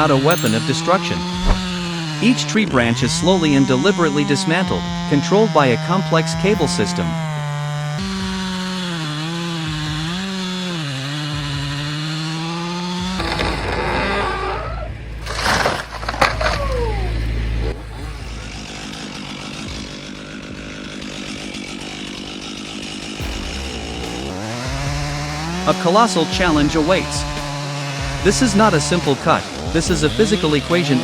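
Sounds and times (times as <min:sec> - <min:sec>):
chainsaw running: 0:00.0 - 0:14.4, 0:18.0 - 0:31.0
chainsaw cutting into wood: 0:03.6 - 0:14.6, 0:15.2 - 0:16.6, 0:18.2 - 0:31.0.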